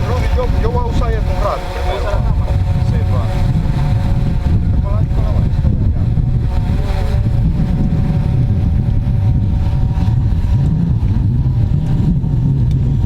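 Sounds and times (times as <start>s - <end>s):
jet ski engine whine: 0.0s - 13.0s
wind on microphone: 0.0s - 13.0s.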